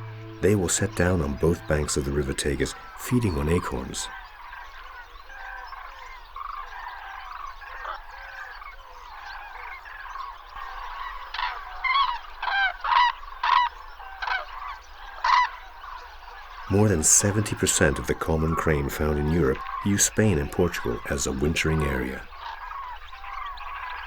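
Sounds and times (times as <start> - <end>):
cranes trumpeting calls: 0.0 - 24.0.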